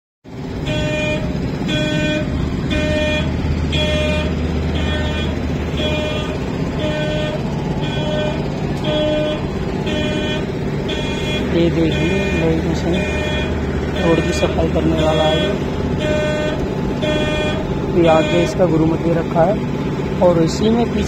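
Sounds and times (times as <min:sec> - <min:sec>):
machine engine running: 0:00.3 - 0:21.0
vehicle reversing alarm beeping: 0:00.3 - 0:21.0.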